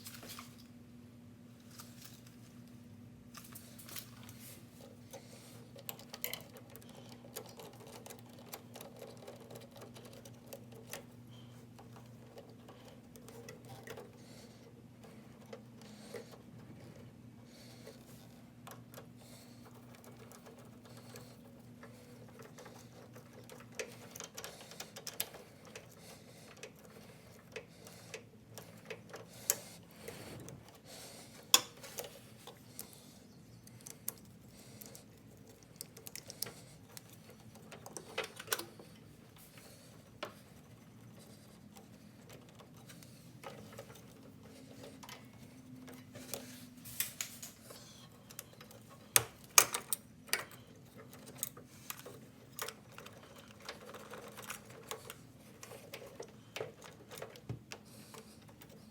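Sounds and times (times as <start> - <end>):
tools clicking and tapping: 5.1 - 14.2, 18.6 - 58.9.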